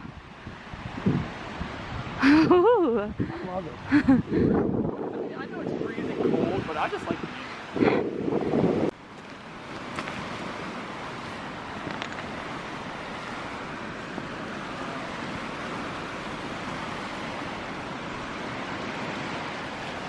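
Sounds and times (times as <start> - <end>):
small waves on shore: 0.0 - 20.0
wind: 0.0 - 20.0.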